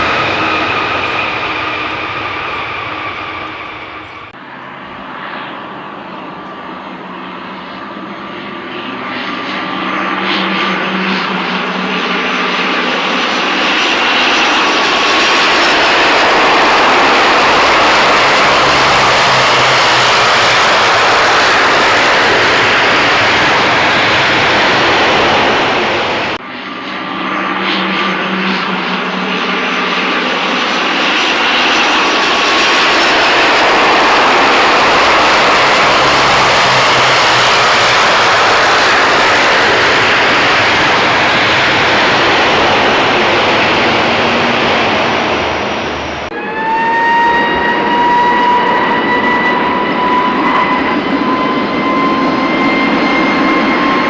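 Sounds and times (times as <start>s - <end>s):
jet engine rushing noise: 0.0s - 54.0s
jet engine whine rising: 0.0s - 54.0s.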